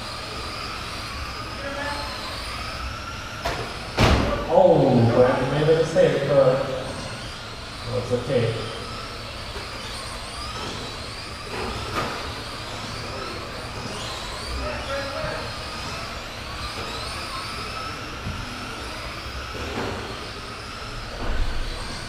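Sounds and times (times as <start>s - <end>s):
toy race truck motors whining: 0.0s - 22.0s.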